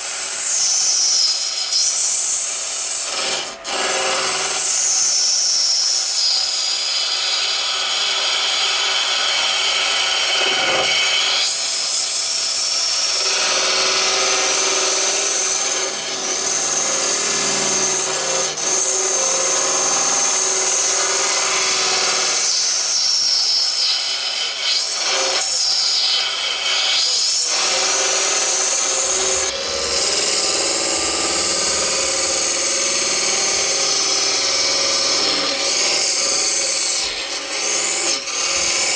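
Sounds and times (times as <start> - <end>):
wood lathe tool scraping hiss: 0.0 - 38.9.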